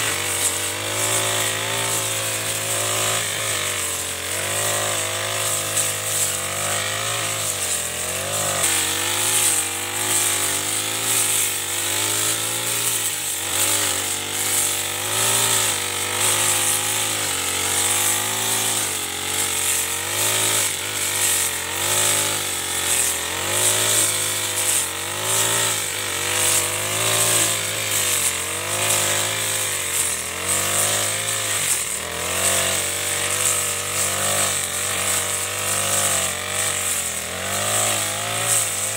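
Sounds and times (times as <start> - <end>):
brush cutter cutting weeds: 0.0 - 38.9.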